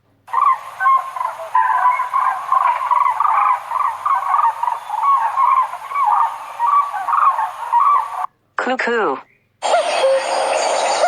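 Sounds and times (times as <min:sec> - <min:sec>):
cranes calling: 0:00.3 - 0:08.3, 0:09.6 - 0:11.0.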